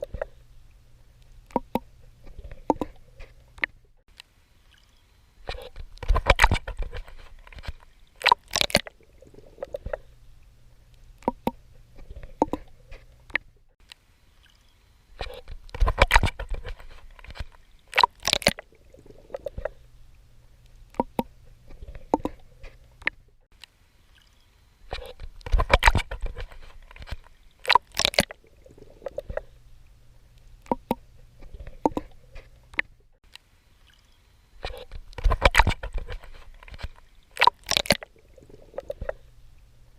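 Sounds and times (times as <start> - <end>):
water splashing from swimming strokes: 1.5 - 3.7, 4.6 - 13.4, 14.3 - 23.1, 24.0 - 32.8, 33.7 - 39.8.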